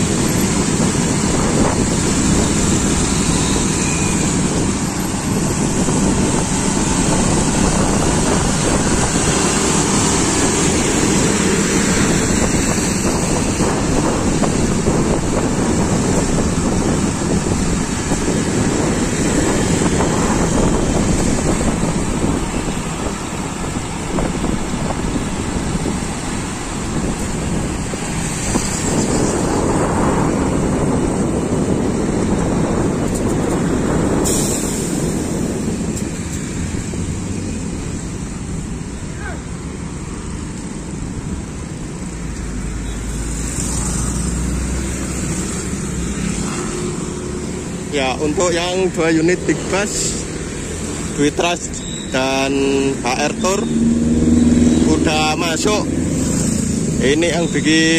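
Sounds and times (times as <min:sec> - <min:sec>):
wind buffeting microphone: 0:00.0 - 0:49.5
engine and road noise: 0:00.0 - 0:57.9.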